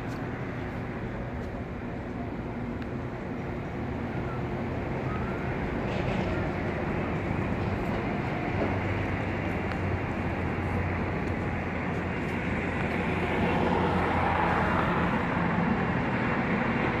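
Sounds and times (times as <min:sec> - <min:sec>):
engines rumbling outdoors: 0:00.0 - 0:17.0.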